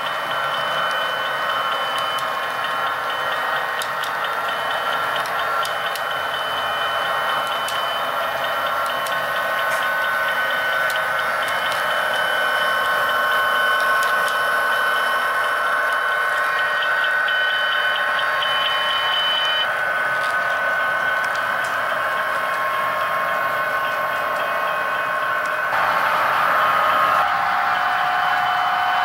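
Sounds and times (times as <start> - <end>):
model train whine: 0.0 - 29.0.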